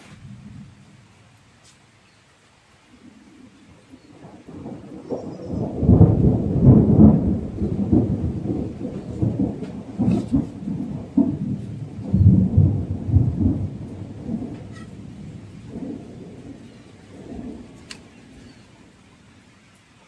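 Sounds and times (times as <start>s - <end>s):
thunder rumbling: 0.0s - 1.5s, 2.8s - 19.6s
steady rain: 0.0s - 20.0s.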